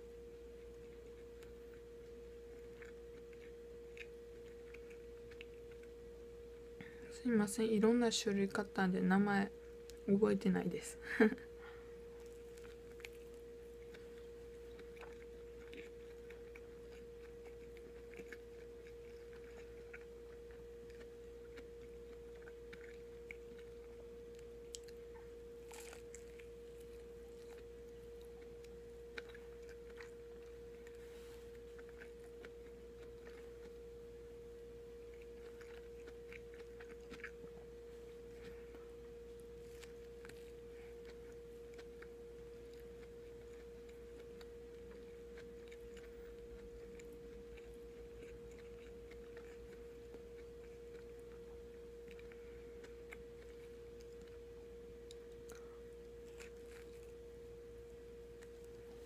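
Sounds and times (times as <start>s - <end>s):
faint steady hum: 0.0s - 59.0s
quiet chewing: 0.0s - 59.0s.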